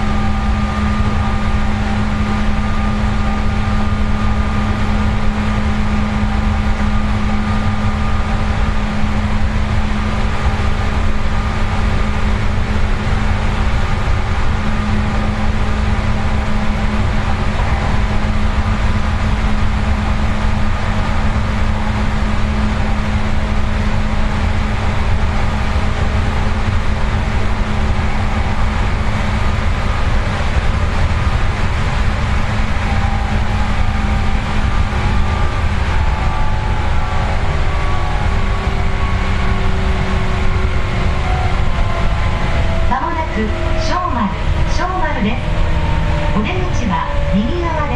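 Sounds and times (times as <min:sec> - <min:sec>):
traction motor hum: 0:00.0 - 0:47.9
train wheels rumbling on rails: 0:00.0 - 0:47.9.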